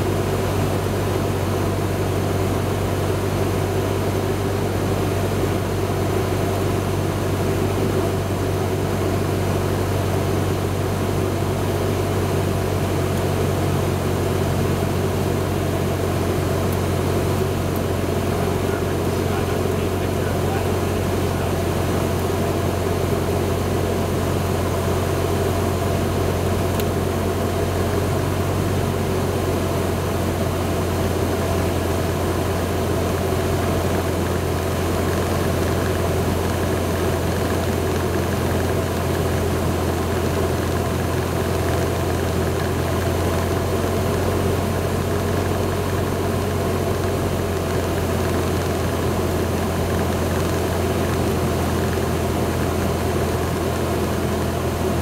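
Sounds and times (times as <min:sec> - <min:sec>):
plane engine and propeller humming: 0:00.0 - 0:55.0.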